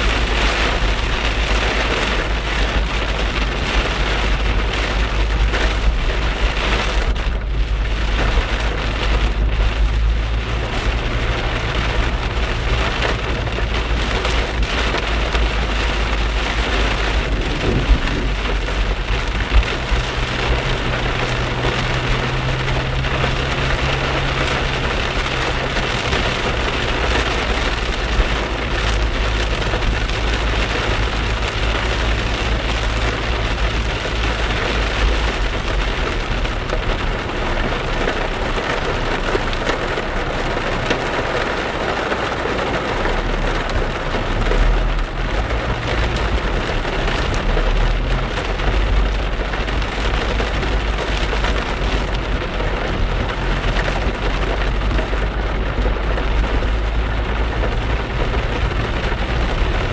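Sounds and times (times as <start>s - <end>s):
heavy rain on car roof: 0.0s - 59.9s
road and engine rumble: 0.0s - 59.9s.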